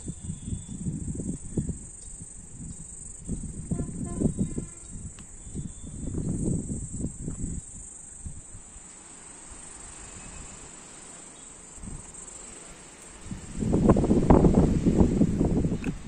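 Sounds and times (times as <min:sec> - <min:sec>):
wind buffeting microphone: 0:00.0 - 0:10.8, 0:11.7 - 0:16.0
high-pitched insect drone: 0:00.0 - 0:14.6.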